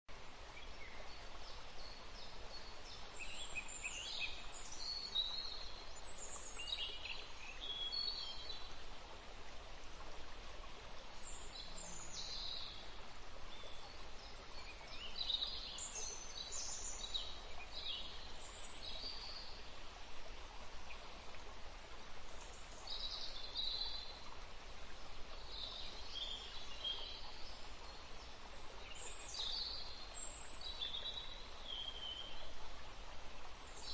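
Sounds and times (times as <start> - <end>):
faint hiss: 0.1 - 33.9.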